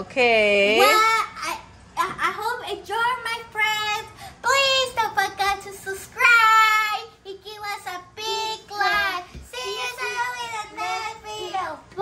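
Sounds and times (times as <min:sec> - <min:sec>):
young child singing: 0:00.8 - 0:12.0.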